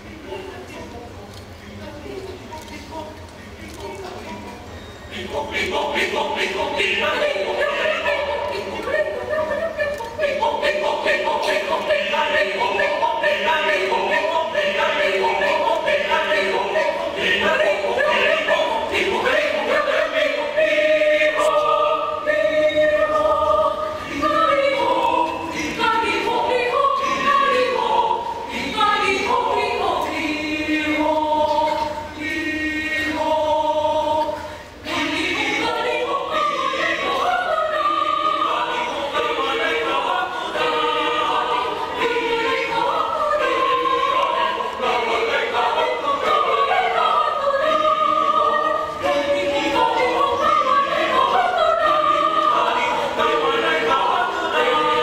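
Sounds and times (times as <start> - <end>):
mixed choir singing: 3.8 - 55.0.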